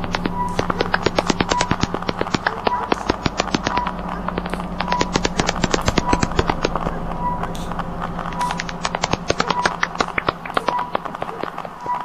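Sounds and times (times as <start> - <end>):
crackling clicks: 0.0 - 12.0
low hum: 0.0 - 12.0.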